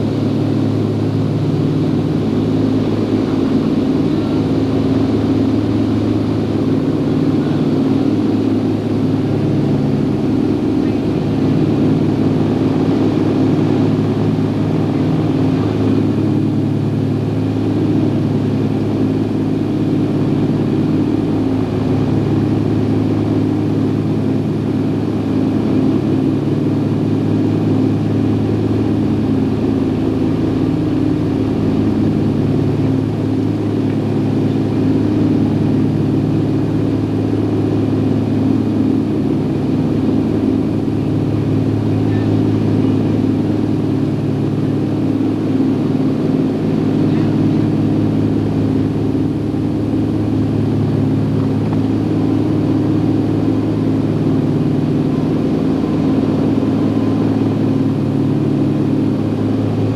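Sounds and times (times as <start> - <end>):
propeller engines droning: 0.0 - 59.9.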